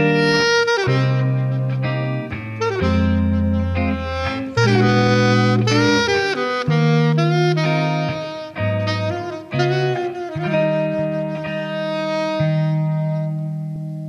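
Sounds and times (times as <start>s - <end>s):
low held accompaniment: 0.0s - 14.0s
saxophone melody: 0.0s - 14.0s.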